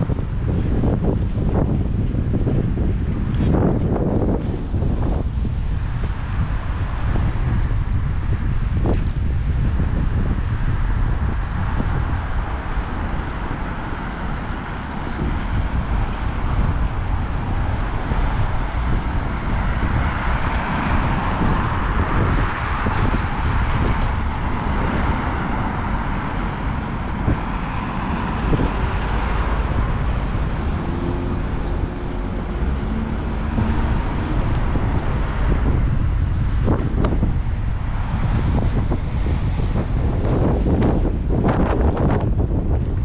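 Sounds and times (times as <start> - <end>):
cars passing: 0.0 - 43.0
wind rumble on microphone: 0.0 - 43.0.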